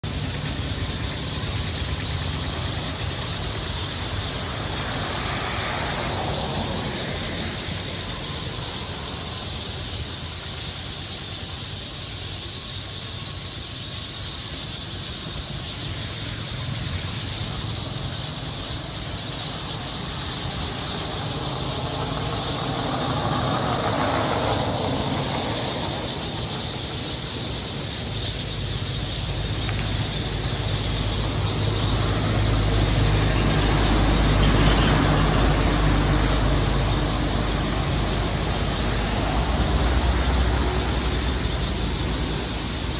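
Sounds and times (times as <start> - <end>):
constant high hiss: 0.0 - 42.9
low traffic rumble: 0.0 - 42.9
vehicles passing: 0.0 - 42.9.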